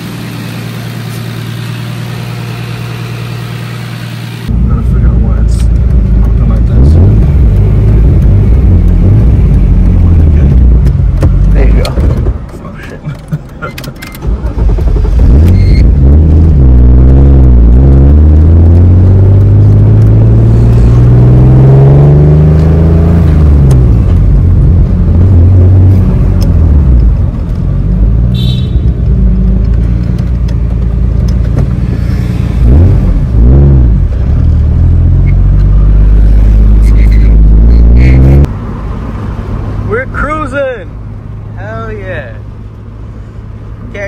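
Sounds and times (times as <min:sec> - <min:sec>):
car engine under load: 0:00.0 - 0:44.0.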